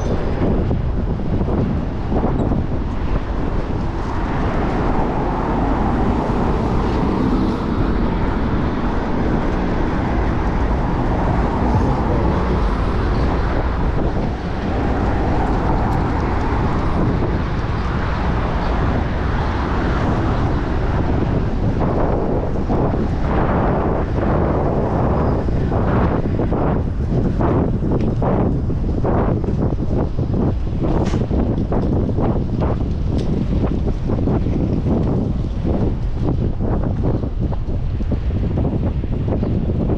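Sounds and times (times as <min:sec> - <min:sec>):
passing road traffic: 0:00.0 - 0:39.9
wind rushing on microphone: 0:00.0 - 0:39.9.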